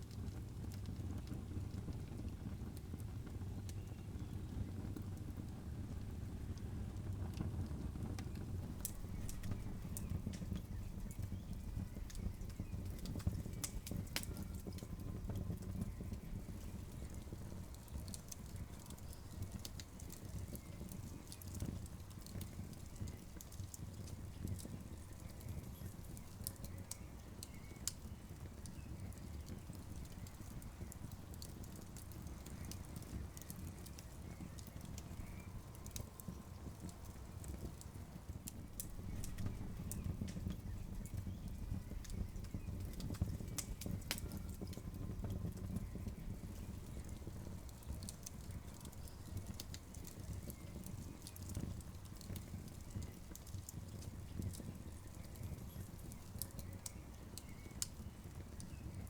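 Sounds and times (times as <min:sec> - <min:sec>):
campfire wood crackling: 0:00.0 - 0:59.0.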